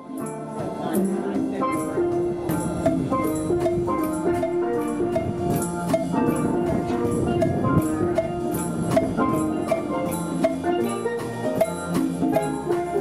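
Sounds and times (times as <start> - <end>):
drums steady beat: 0.0 - 13.0
steel pan band playing: 0.0 - 13.0.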